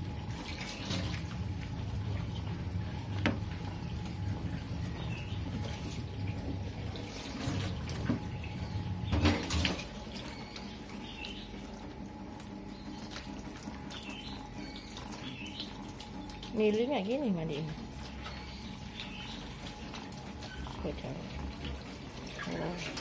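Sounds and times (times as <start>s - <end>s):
hose water splashing on metal sink: 0.0s - 12.0s, 12.8s - 23.0s.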